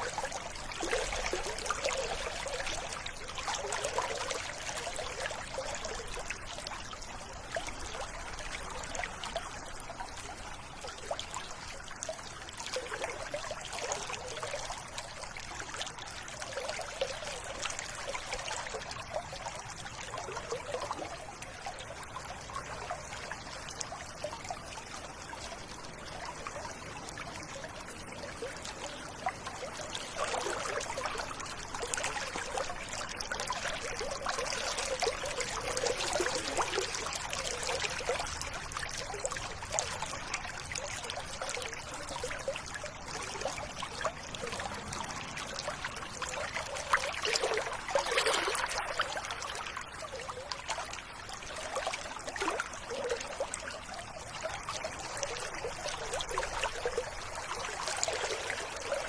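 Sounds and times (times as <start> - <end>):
river water burbling: 0.0 - 59.0.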